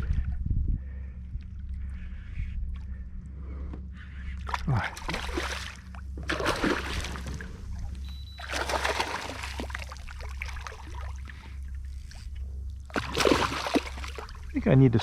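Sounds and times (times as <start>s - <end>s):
steady low hum: 0.0s - 15.0s
water splashing and sloshing: 1.2s - 15.0s.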